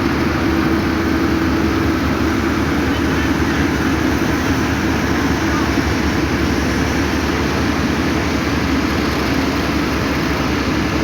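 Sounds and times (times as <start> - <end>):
heavy machinery engine droning: 0.0 - 11.0.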